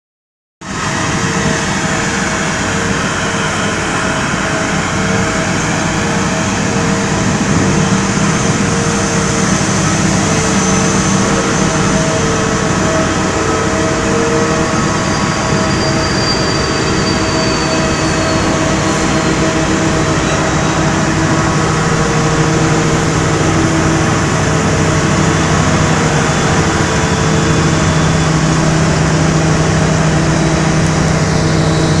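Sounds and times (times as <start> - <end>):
airport ramp machinery drone: 0.6 - 32.0
steady whining tones: 0.7 - 32.0.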